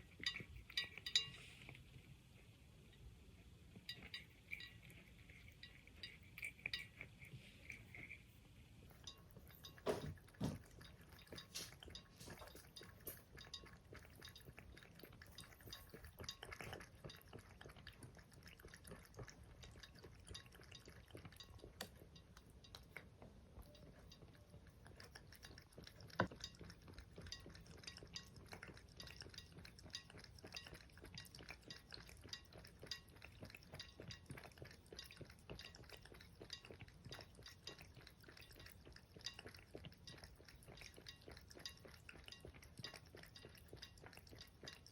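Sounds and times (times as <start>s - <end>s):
cat lapping water: 0.0s - 44.9s.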